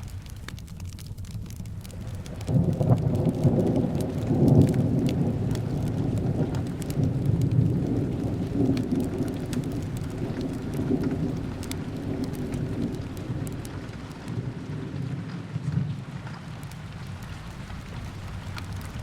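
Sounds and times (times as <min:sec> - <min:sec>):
low rolling rumble: 0:00.0 - 0:19.0
steady rain: 0:00.0 - 0:19.0
wood fire crackling: 0:00.0 - 0:19.0.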